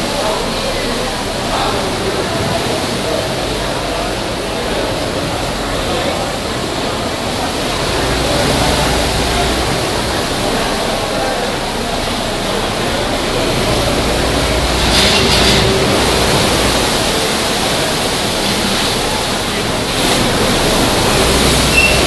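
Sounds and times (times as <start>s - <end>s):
rough sea surging against rocks: 0.0s - 22.0s
waves breaking: 0.0s - 22.0s.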